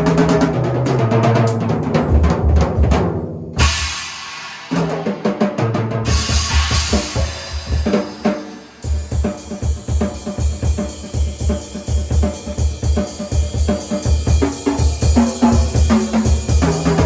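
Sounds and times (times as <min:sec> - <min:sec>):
drum kit playing: 0:00.0 - 0:17.0.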